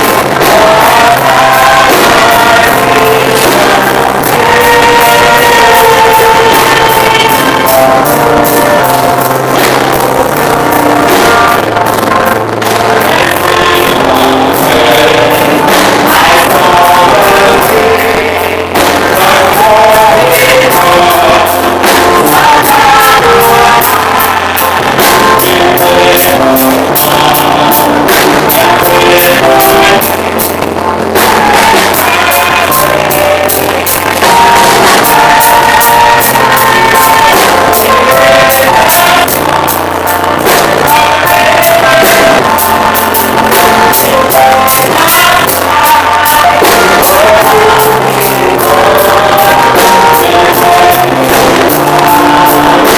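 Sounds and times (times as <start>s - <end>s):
gospel singing: 0.0s - 52.9s
steady drum beat: 0.0s - 52.9s.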